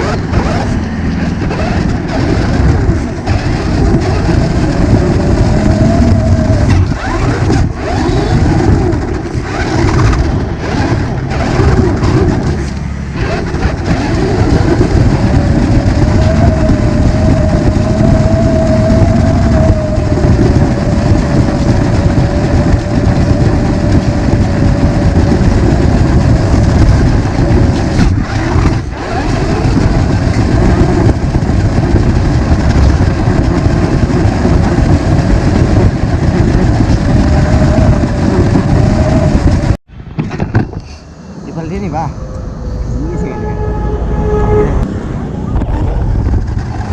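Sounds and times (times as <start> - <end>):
continuous rumble: 0.0 - 46.9.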